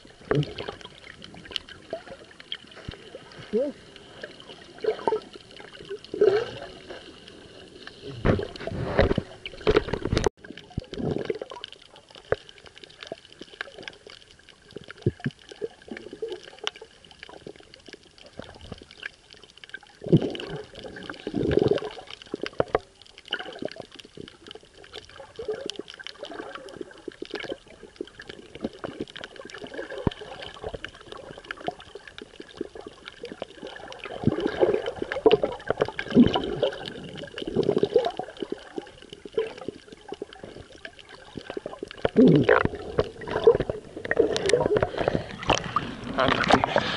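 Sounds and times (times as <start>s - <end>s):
fine crackle of small clicks: 0.0s - 46.8s
underwater gurgling and sloshing: 0.0s - 46.9s.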